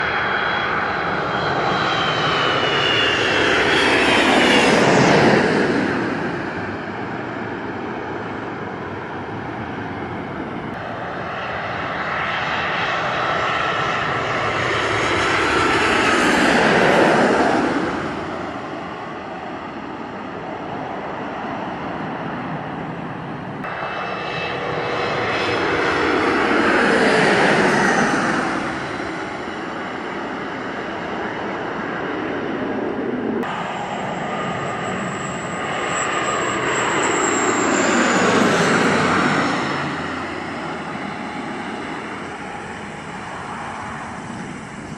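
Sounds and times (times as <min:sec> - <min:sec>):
airliners passing overhead: 0:00.0 - 0:44.9.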